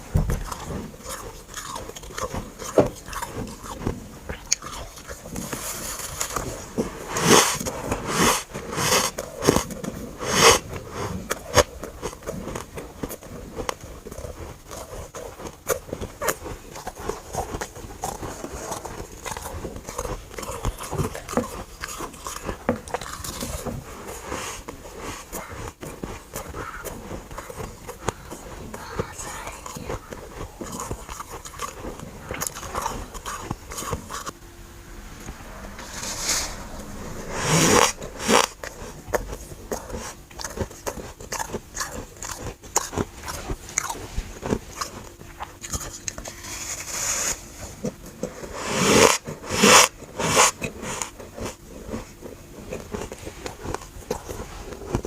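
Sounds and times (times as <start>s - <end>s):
chewing crackles: 0.0s - 34.4s, 35.2s - 55.0s.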